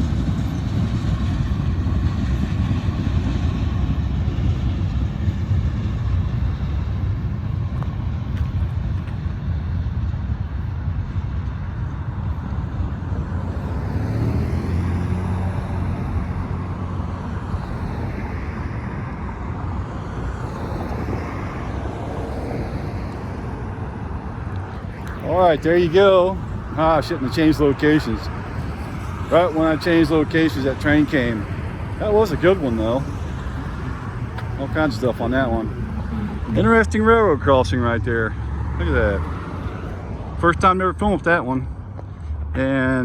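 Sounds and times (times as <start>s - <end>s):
freight train rumbling on rails: 0.0s - 37.1s
engine hum: 0.0s - 43.0s.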